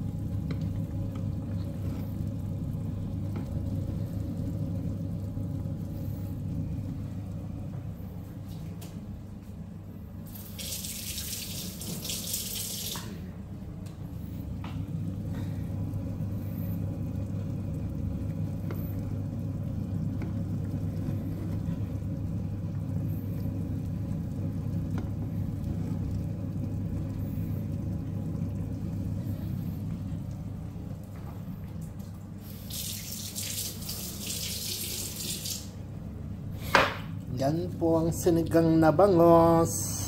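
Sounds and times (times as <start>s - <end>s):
soup boiling and bubbling: 0.0s - 40.0s.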